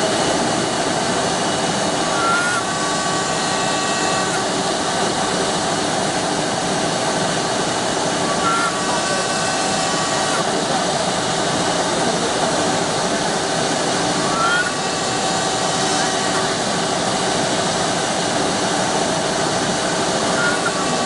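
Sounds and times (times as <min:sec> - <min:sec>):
lathe whirring: 0:00.0 - 0:21.0.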